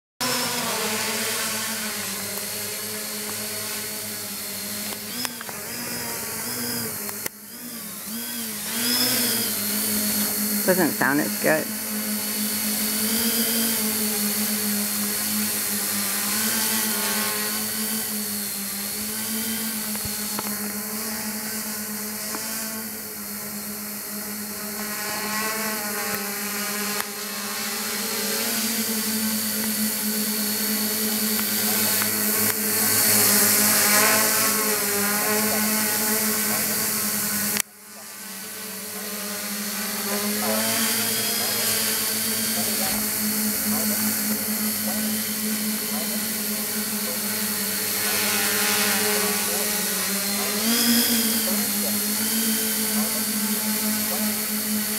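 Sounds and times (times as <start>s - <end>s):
quadcopter buzzing drone: 0.2s - 54.9s.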